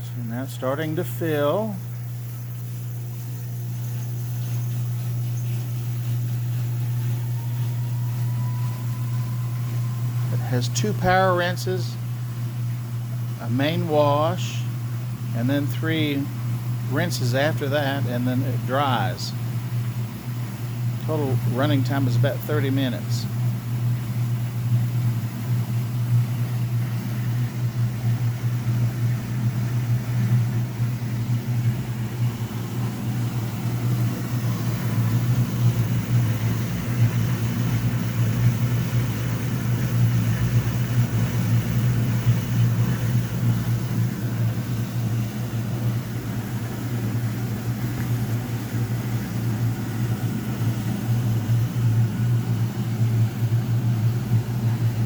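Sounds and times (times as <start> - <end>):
low hum: 0.0 - 55.0.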